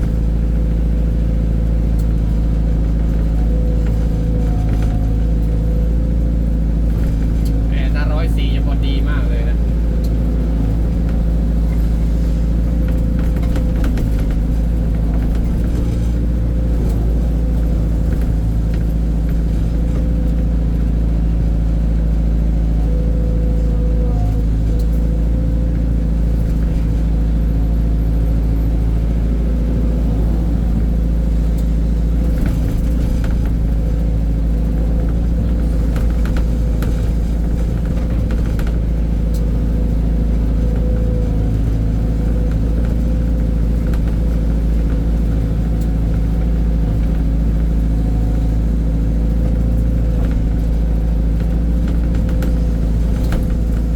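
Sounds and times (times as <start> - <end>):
truck engine droning: 0.0 - 53.9.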